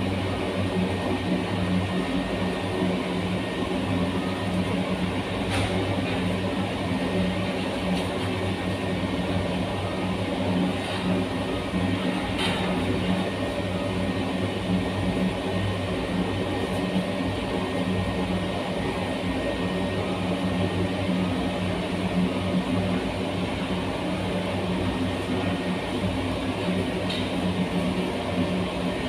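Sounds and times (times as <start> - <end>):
furnace burner rushing: 0.0 - 29.0.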